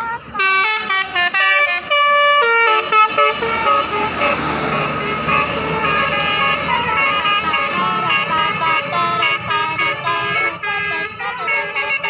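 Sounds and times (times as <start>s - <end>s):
musical bus horn: 0.0s - 12.0s.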